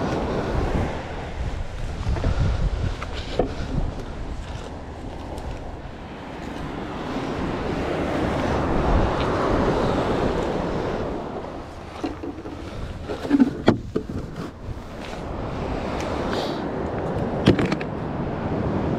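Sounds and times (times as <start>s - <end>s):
surf on beach: 0.0s - 18.9s
wind: 0.0s - 18.9s.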